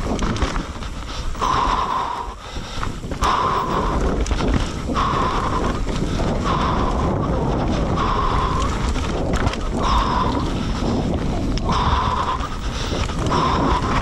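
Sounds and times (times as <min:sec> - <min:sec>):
low rumble: 0:00.0 - 0:14.0
wind buffeting microphone: 0:00.0 - 0:14.0.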